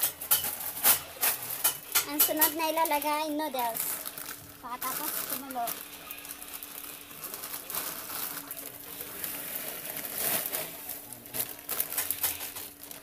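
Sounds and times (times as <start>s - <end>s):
plastic bag crinkling: 0.2s - 13.0s.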